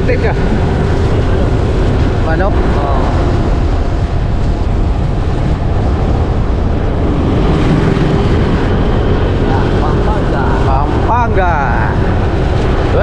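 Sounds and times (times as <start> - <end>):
vehicle rumbling on road: 0.0 - 13.0
wind on microphone: 0.0 - 13.0.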